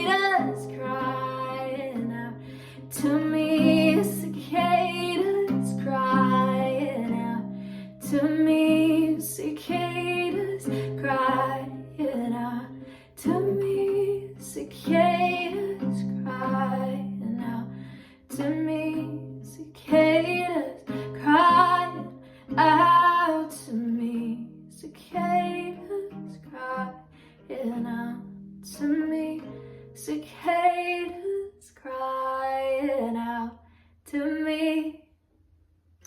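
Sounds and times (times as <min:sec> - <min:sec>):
woman singing: 0:00.0 - 0:35.1.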